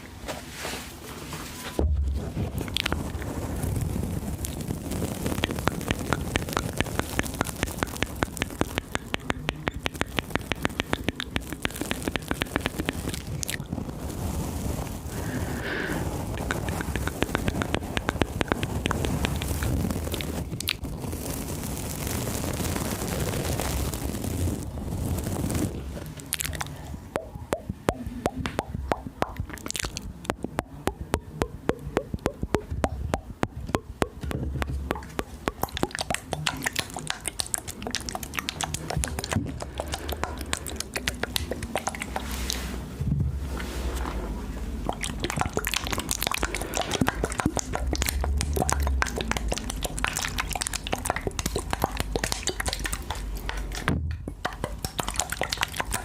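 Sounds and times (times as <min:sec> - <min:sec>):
wet lip and tongue clicks: 0:02.6 - 0:03.3, 0:03.9 - 0:20.9, 0:26.2 - 0:42.8, 0:44.8 - 0:56.0.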